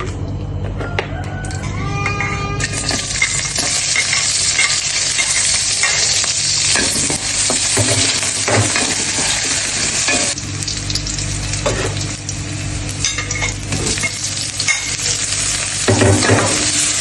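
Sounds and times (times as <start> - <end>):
food sizzling in hot oil: 2.6 - 17.0.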